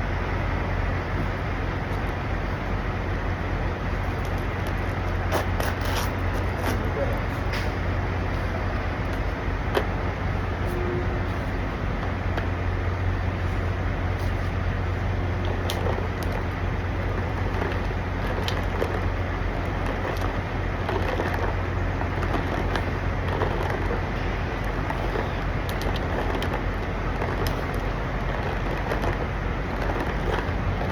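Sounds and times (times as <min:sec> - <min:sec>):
diesel trucks idling: 0:00.0 - 0:30.9.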